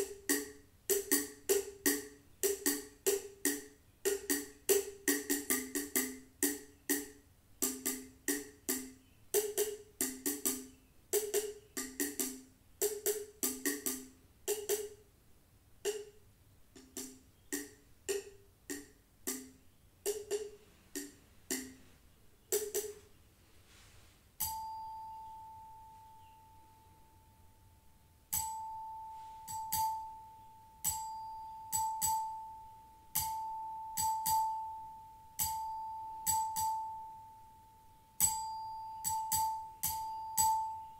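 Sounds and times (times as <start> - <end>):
hand percussion strikes: 0.0 - 15.0, 15.8 - 21.9, 22.5 - 23.1, 24.4 - 27.2, 28.2 - 37.1, 38.2 - 40.9.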